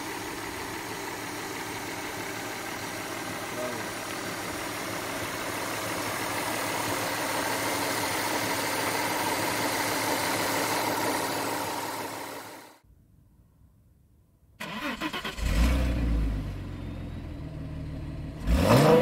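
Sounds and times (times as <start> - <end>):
car engine idling: 0.0 - 12.8, 14.6 - 18.6.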